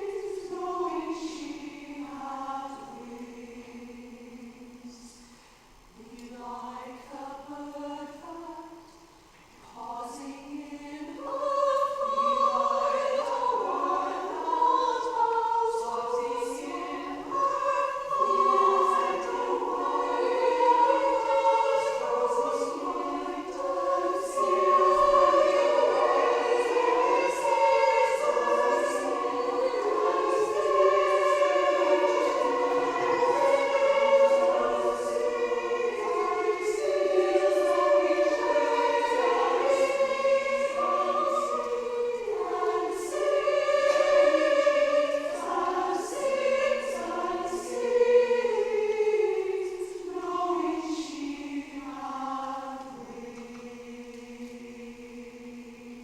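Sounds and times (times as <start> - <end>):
women's chorus singing in harmony: 0.0 - 56.0.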